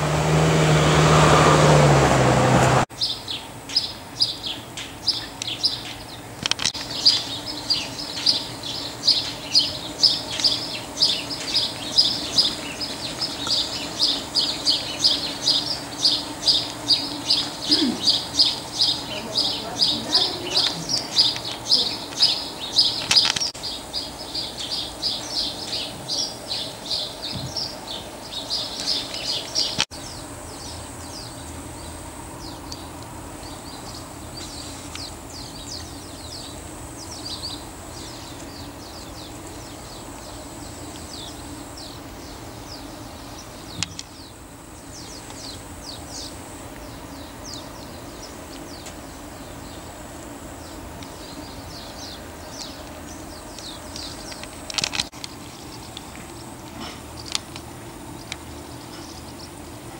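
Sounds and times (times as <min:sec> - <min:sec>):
low outdoor background: 0:00.0 - 0:59.9
small birds chirping: 0:02.9 - 0:59.9.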